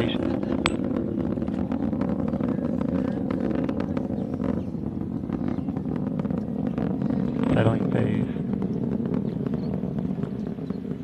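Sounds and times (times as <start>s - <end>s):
distant rocket motors rumbling: 0.0s - 11.0s.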